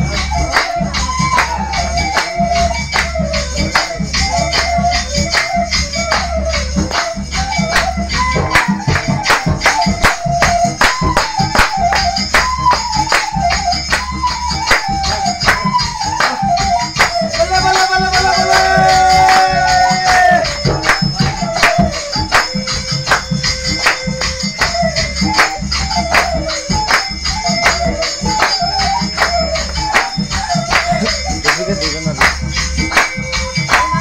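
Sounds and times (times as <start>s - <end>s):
folk dance song over speaker: 0.0s - 34.0s.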